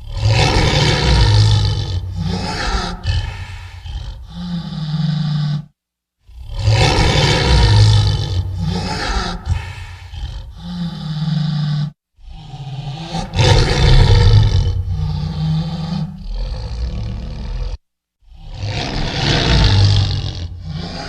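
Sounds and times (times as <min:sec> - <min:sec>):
creature roars and growls: 0:00.0 - 0:05.7, 0:06.3 - 0:21.0.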